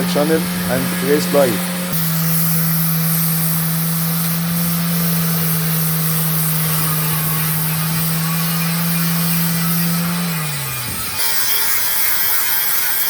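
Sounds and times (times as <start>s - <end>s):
electric sander running: 0.0s - 13.0s.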